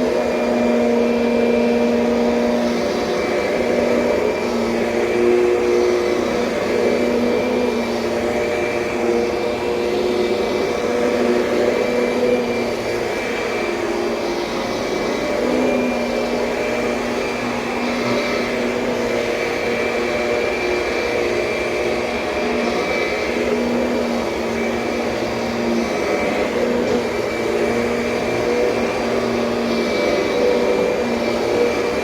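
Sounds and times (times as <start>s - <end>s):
upright vacuum cleaner running: 0.0s - 32.0s.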